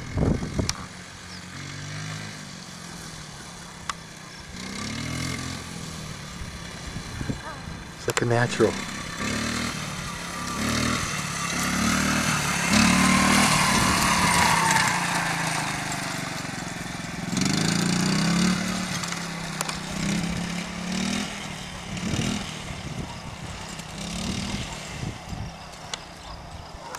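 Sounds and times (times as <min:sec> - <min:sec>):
small dirt bike engine revving: 0:00.0 - 0:26.9.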